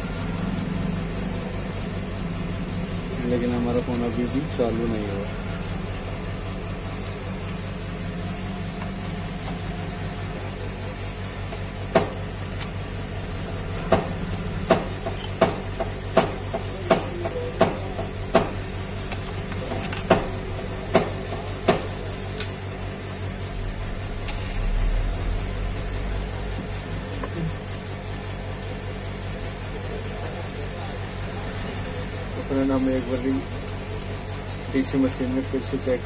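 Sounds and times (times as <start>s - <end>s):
steady electrical hum: 0.0s - 36.0s.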